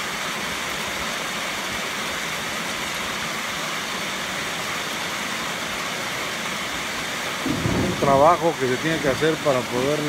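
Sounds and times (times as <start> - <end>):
rain on a roof: 0.0 - 10.0.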